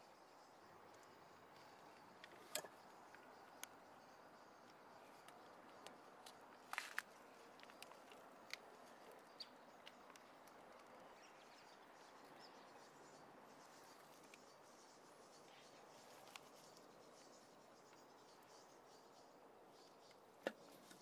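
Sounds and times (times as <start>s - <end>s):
faint background hiss: 0.0s - 21.0s.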